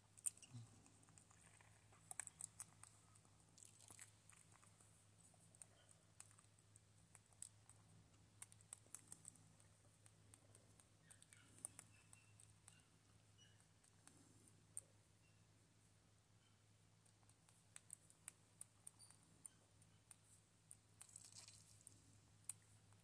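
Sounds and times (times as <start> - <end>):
fingers clicking and rustling in hair: 0.0 - 12.9, 17.1 - 22.7
faint low hum: 0.0 - 23.0.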